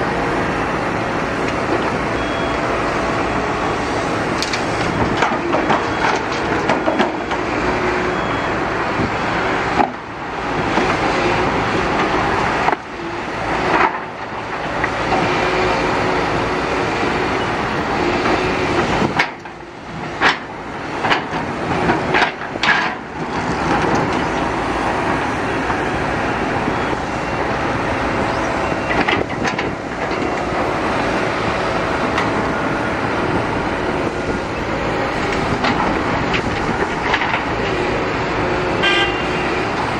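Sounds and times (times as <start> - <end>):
heavy machinery engine running: 0.0 - 39.9.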